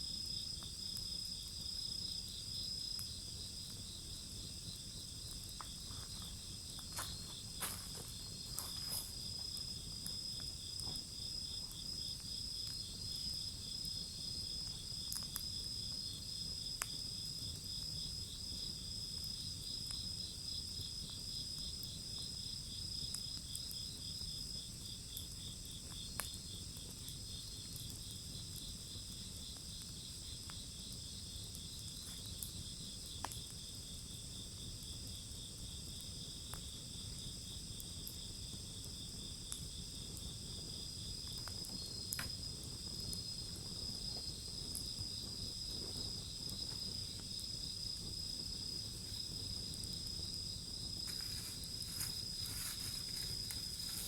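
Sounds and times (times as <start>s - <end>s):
crickets chirping: 0.0s - 54.0s
wood fire crackling: 0.0s - 54.0s.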